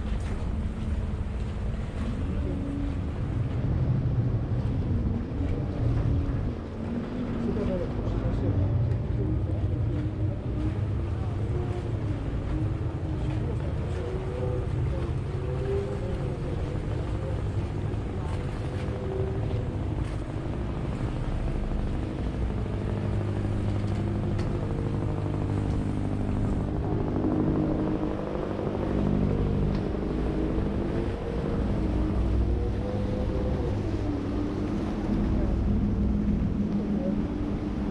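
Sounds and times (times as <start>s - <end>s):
boat engine droning: 0.0s - 37.9s.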